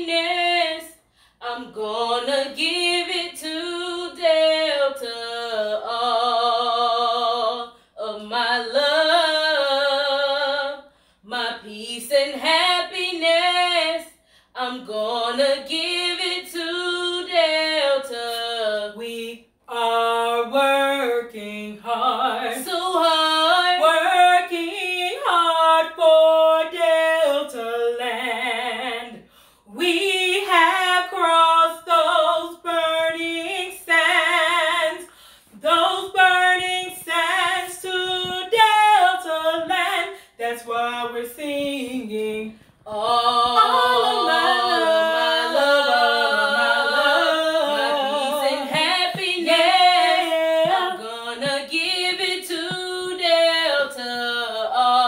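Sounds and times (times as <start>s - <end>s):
voices singing in harmony: 0.0s - 55.0s
women singing: 0.0s - 55.0s.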